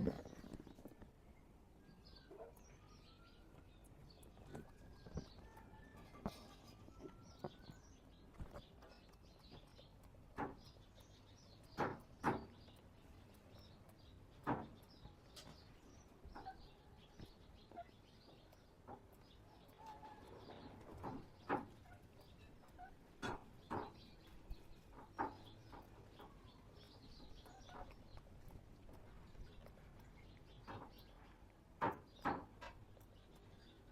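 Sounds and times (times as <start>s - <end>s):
faint birds chirping: 0.0s - 33.9s.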